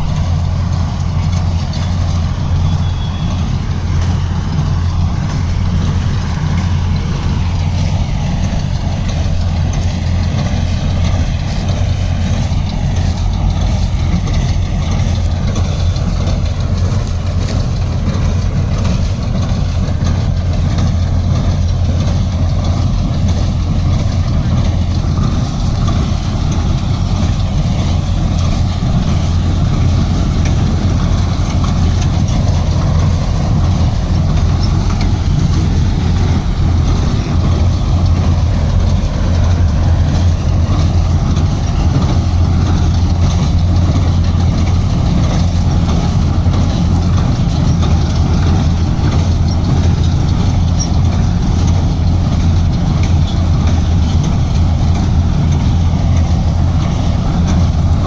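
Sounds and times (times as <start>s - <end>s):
loud low machine hum: 0.0s - 58.0s.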